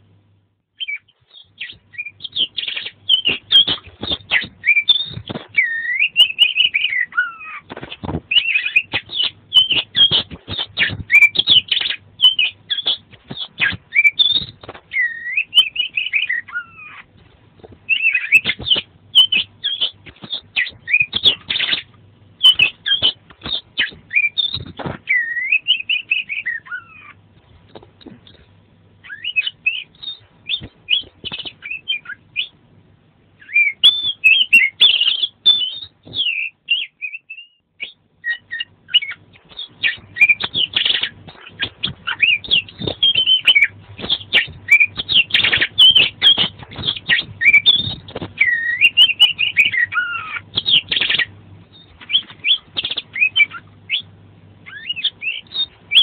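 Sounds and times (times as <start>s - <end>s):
bird singing whistles and chirps: 0.8s - 7.7s, 8.3s - 17.1s, 17.9s - 27.2s, 29.0s - 32.6s, 33.4s - 56.0s.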